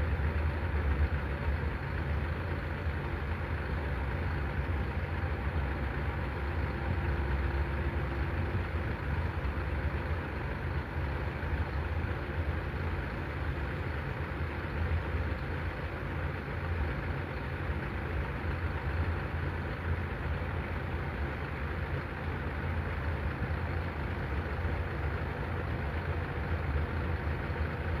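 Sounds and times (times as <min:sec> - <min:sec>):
truck diesel engine idling: 0:00.0 - 0:28.0.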